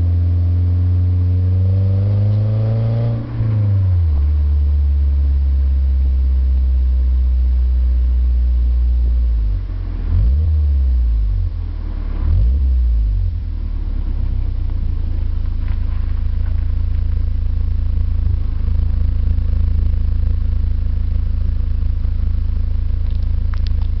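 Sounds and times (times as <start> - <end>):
car engine droning while driving: 0.0 - 24.0.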